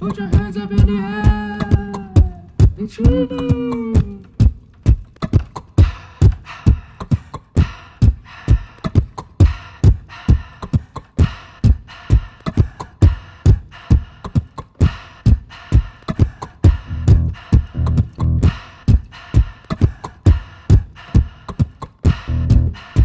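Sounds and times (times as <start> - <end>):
beatboxed kick drum thuds: 0.0 - 23.0
beatboxed snare sounds: 0.0 - 23.0.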